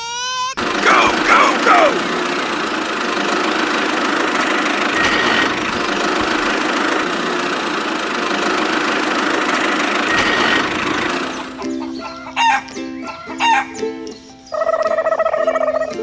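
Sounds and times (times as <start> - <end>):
engine idling: 0.6 - 14.6.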